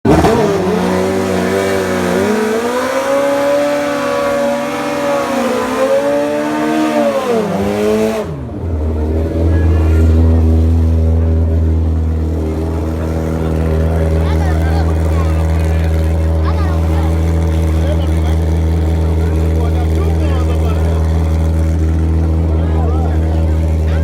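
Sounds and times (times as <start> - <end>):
motorcycle engines revving: 0.1 - 24.0.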